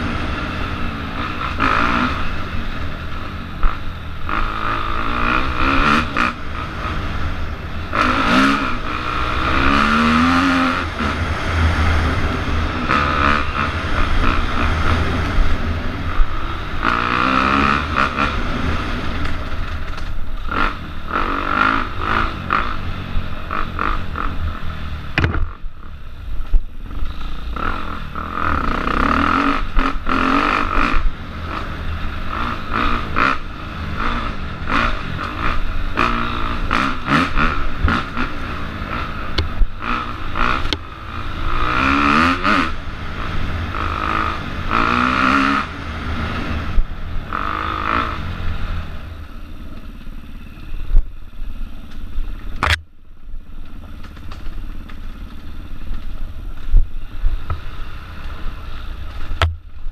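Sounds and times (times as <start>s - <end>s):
motorcycle engine revving: 0.0s - 59.9s
motorcycle rattling over bumps: 0.0s - 59.9s.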